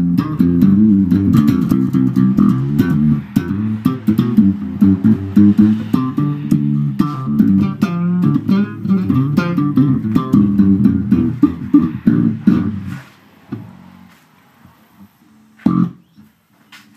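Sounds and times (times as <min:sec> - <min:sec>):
funky electric bass: 0:00.0 - 0:14.2, 0:15.3 - 0:16.9.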